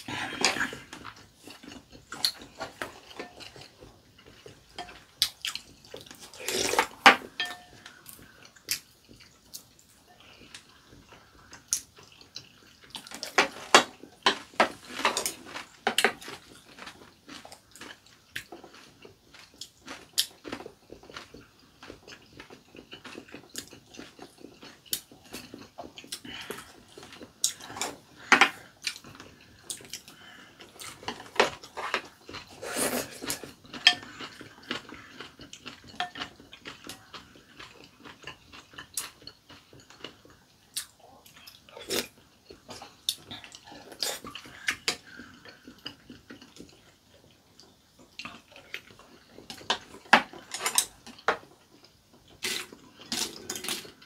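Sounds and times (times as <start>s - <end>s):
people chewing: 0.0s - 54.0s.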